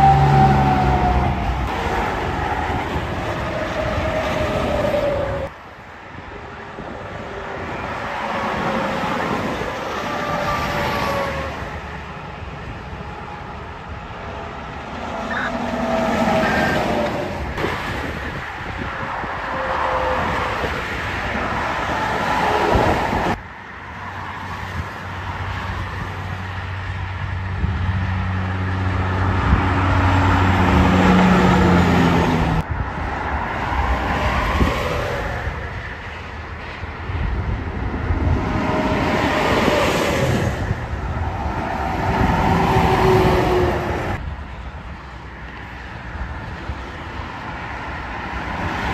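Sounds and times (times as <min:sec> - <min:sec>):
traffic passing on highway: 0:00.0 - 0:48.9.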